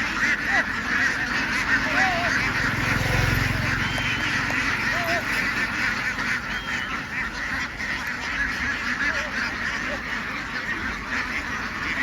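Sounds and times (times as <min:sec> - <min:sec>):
flock of ducks calling: 0:00.0 - 0:12.0
single duck calls: 0:00.0 - 0:12.0.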